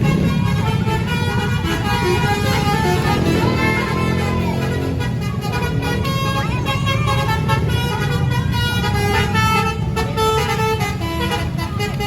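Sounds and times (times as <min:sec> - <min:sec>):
air horn playing melody: 0:00.0 - 0:12.0
bus engine rumble: 0:00.0 - 0:12.0.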